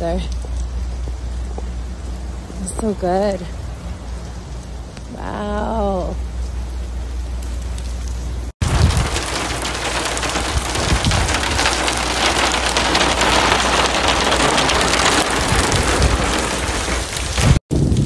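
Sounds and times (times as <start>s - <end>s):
heavy rain on pavement: 0.1s - 18.0s.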